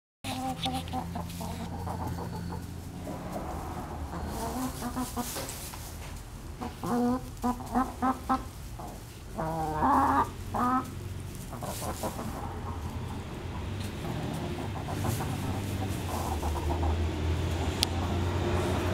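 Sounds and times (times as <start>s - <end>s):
hens clucking: 0.3s - 18.9s.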